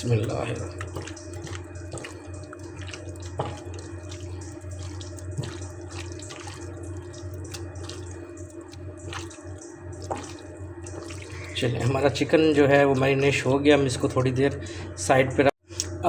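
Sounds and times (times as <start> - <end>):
wet squelches and clicks: 0.0 - 14.4
steady low hum: 0.0 - 16.0.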